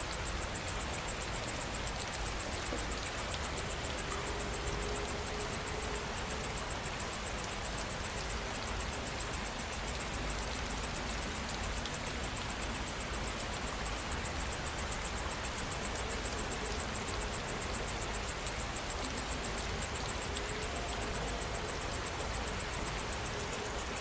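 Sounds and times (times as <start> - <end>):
insect chirping: 0.0 - 24.0
steady rain falling: 0.0 - 24.0.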